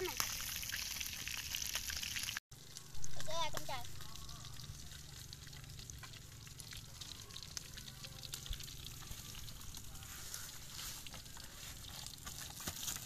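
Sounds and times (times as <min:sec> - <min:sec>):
fish sizzling in hot oil: 0:00.0 - 0:12.2.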